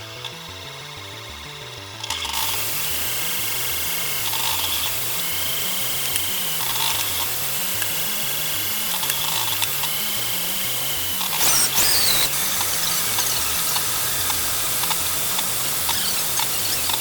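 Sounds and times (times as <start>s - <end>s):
stepper motors whining: 0.0s - 17.0s
high whine sweeping downward: 2.4s - 17.0s.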